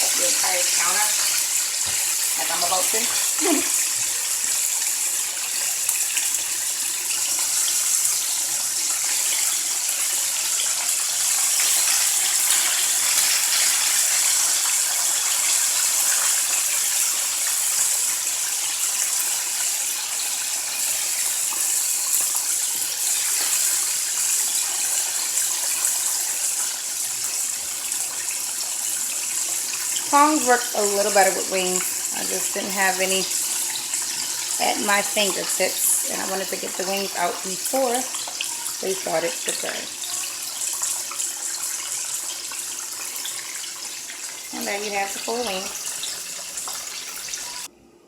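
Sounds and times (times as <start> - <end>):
deep-frying oil sizzling: 0.0 - 47.7.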